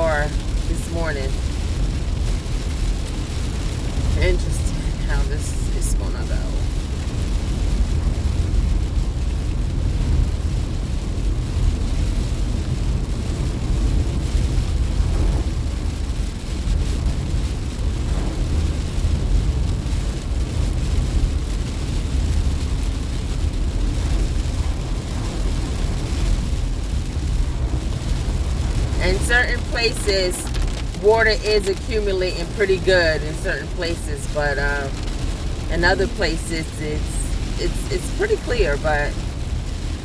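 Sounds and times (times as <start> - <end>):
car engine rumble from inside: 0.0 - 40.0
tyres on wet road: 0.0 - 40.0.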